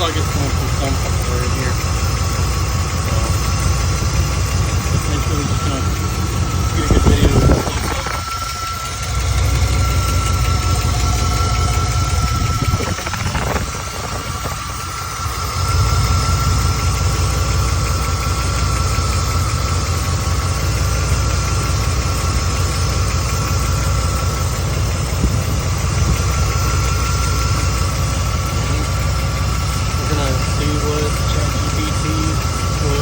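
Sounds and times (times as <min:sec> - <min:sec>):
engine idling with rapid tick: 0:00.0 - 0:33.0.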